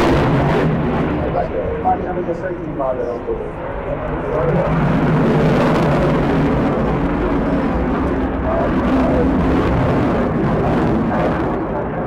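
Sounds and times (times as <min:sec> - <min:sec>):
jet engine flyby roar: 0:00.0 - 0:12.0.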